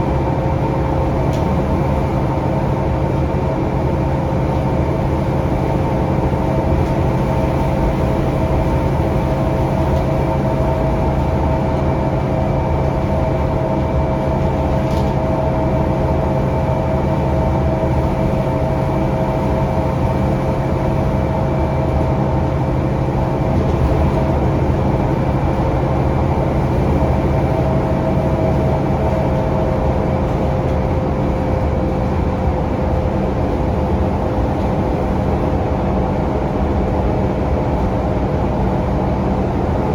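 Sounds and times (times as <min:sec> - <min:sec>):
bus engine drone with whine: 0:00.0 - 0:39.9
road rumble: 0:00.0 - 0:39.9.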